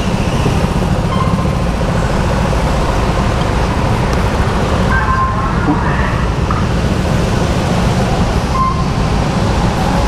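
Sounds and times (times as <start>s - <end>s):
go-kart engine rumble: 0.0s - 10.0s.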